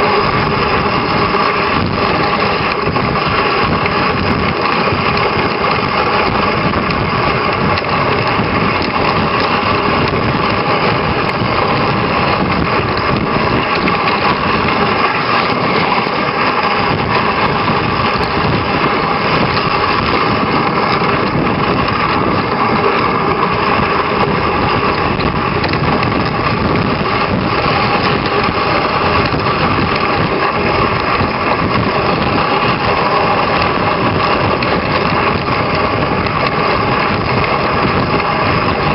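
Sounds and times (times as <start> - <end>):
low rumble from bumps: 0.0 - 38.9
sled runners hissing on snow: 0.0 - 38.9.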